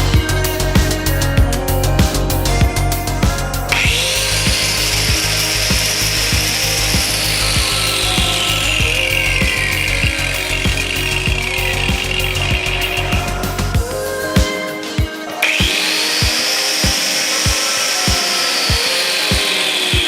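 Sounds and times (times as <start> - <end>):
angle grinder whining: 0.0 - 20.0
background music with steady beat: 0.0 - 20.0.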